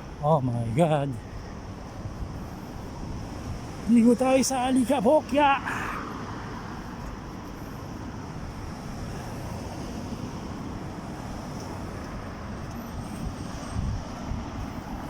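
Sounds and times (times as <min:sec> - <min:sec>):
road traffic: 0:00.0 - 0:15.0
sandstorm wind rushing: 0:00.0 - 0:15.0
wind rumble on microphone: 0:00.0 - 0:15.0.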